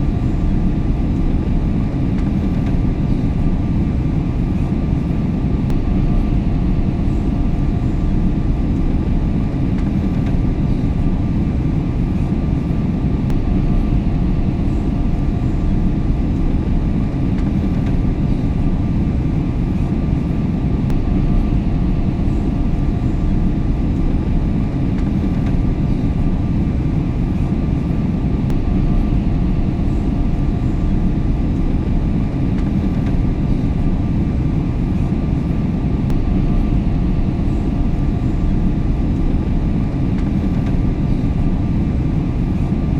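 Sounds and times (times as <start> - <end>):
airliner engines and airflow rumble: 0.0 - 42.9
faint steady hums: 0.0 - 42.9.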